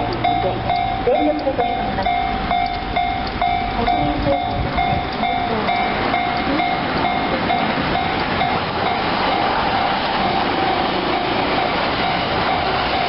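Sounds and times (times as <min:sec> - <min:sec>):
level crossing alarm ringing: 0:00.0 - 0:13.0
train passing: 0:00.0 - 0:13.0.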